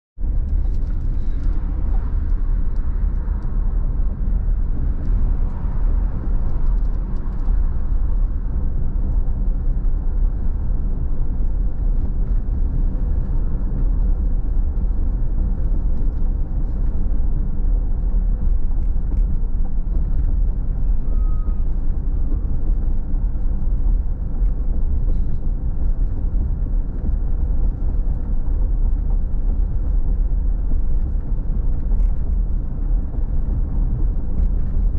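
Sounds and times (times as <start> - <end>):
car engine and tyres rumbling: 0.2 - 34.9.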